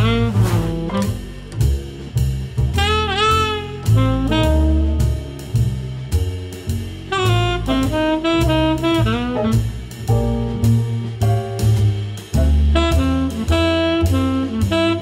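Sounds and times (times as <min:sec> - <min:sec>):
jazz music: 0:00.0 - 0:15.0.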